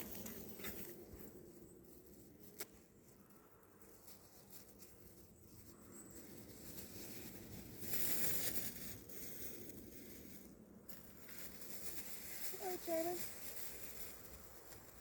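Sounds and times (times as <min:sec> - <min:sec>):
close rustling and crinkling: 0:00.0 - 0:15.0.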